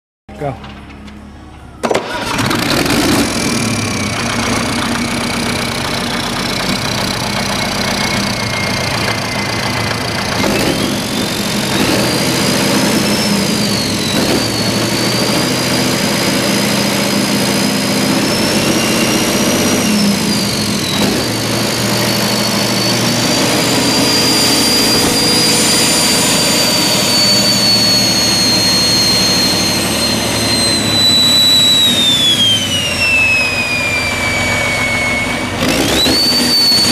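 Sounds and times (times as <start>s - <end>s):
diesel engine running: 0.4s - 36.9s
turbocharger whine: 0.7s - 36.9s.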